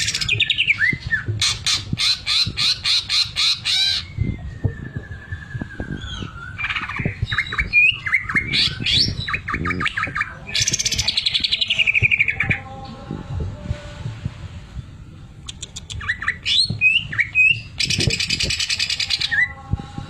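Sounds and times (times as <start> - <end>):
bird whistles and chirps: 0.0 - 12.6, 15.5 - 19.6.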